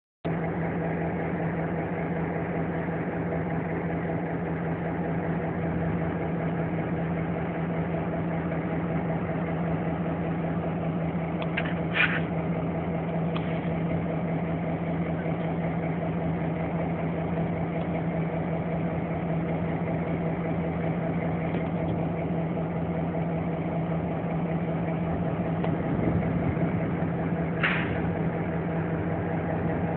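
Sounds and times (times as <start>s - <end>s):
diesel locomotive engine humming: 0.2s - 29.9s.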